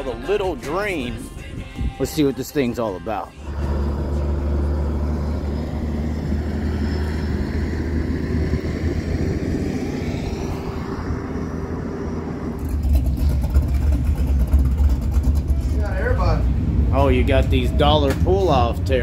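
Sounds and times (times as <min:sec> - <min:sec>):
vehicle engine humming: 0:00.0 - 0:19.0
rough crackling engine rumble: 0:03.3 - 0:19.0.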